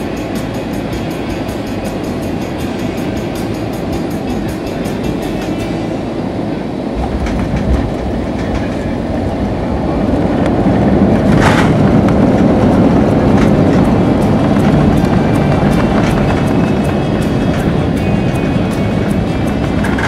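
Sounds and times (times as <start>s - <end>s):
jet engine and airflow noise: 0.0s - 20.0s
reverse thrust roar: 0.0s - 20.0s
wheels rumbling on runway: 0.0s - 20.0s.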